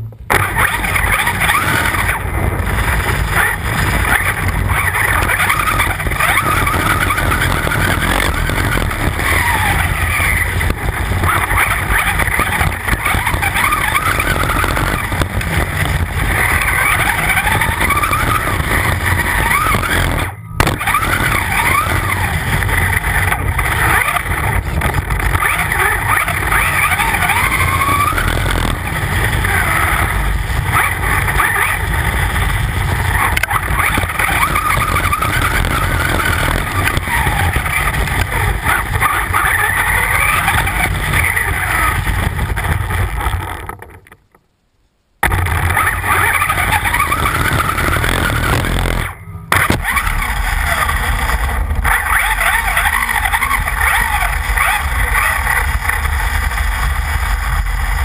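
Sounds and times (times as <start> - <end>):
electric motor whine: 0.0 - 43.8, 45.2 - 58.0
tyres and chassis rumble: 0.0 - 58.0.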